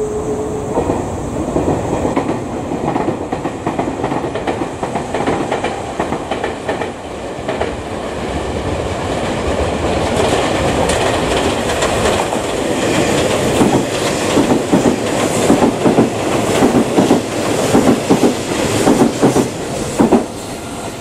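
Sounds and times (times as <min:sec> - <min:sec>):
low train rumble: 0:00.0 - 0:21.0
train wheels clattering over rails: 0:00.8 - 0:20.8.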